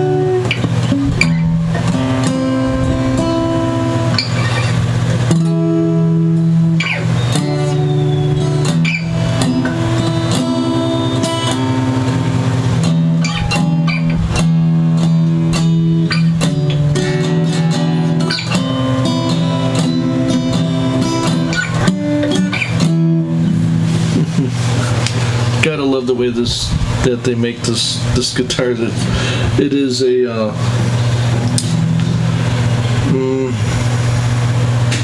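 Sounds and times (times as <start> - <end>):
acoustic guitar chords strummed: 0.0 - 35.0.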